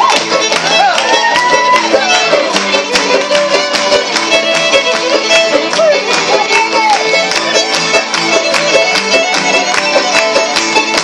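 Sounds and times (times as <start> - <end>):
fiddle bluegrass music: 0.0 - 11.0.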